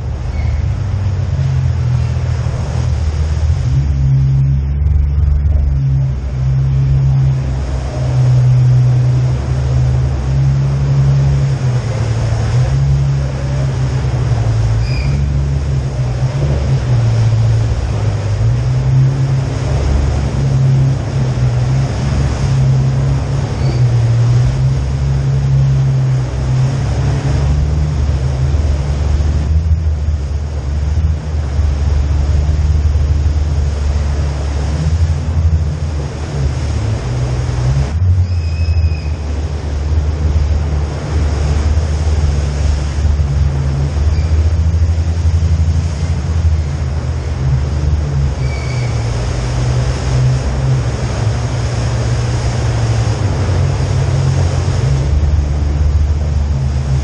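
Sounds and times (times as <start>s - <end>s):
engines rumbling in a tunnel: 0.0s - 57.0s.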